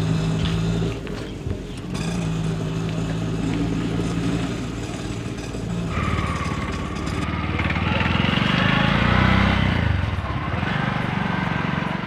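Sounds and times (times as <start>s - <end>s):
auto-rickshaw engine idling and revving: 0.0s - 12.0s.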